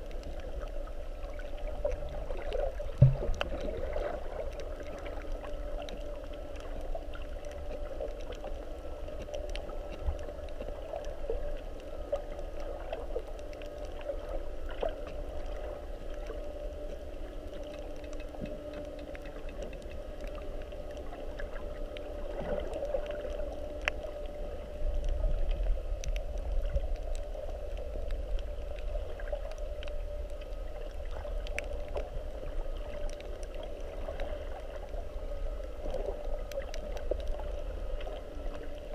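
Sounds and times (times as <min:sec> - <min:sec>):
underwater clicks and crackles: 0:00.0 - 0:38.9
underwater drone and rumble: 0:00.0 - 0:38.9.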